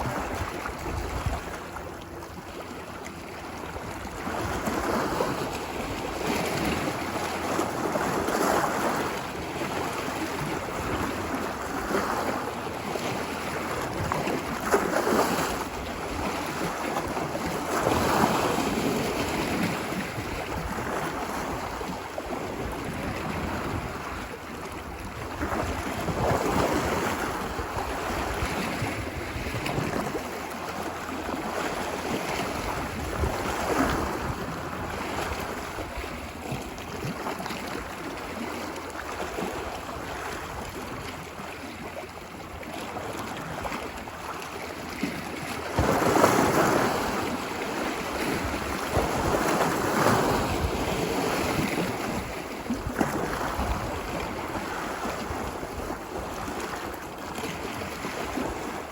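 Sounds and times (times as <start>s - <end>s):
ocean waves breaking: 0.0s - 58.9s
wind: 0.0s - 58.9s.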